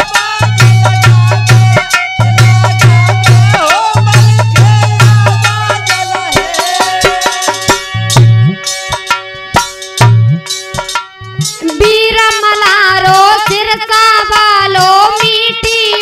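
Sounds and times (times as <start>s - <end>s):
wavering melody line: 0.0s - 13.0s
hand drums: 0.0s - 16.0s
held melody: 0.0s - 16.0s.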